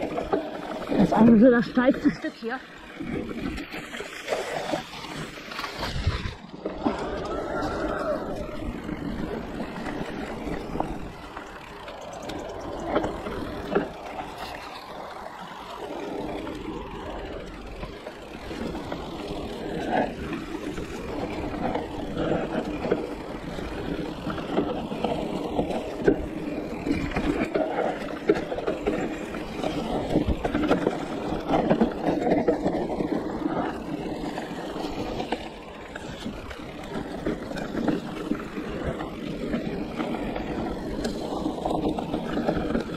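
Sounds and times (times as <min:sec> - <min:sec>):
bike rattling and knocking: 0:00.0 - 0:42.9
bike tyre and riding noise: 0:00.0 - 0:42.9.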